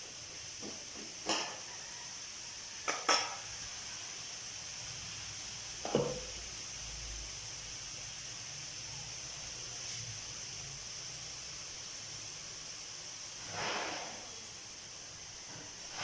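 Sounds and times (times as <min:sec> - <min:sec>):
squid sizzling in a pan: 0:00.0 - 0:16.0.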